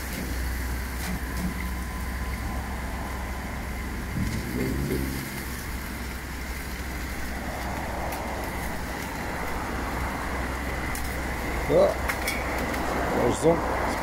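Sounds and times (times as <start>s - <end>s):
truck engine running steadily: 0.0s - 14.0s
muddy water rushing out: 0.4s - 12.1s.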